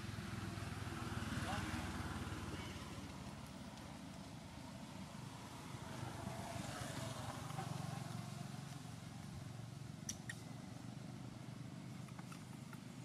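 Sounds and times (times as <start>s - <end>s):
distant traffic hum: 0.0s - 13.0s.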